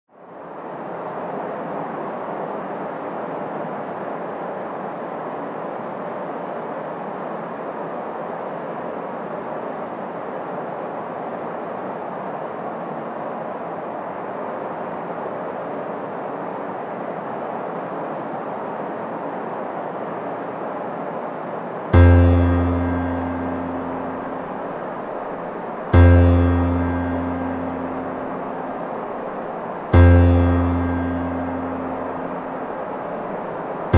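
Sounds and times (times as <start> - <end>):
steady rushing noise: 0.1 - 33.9.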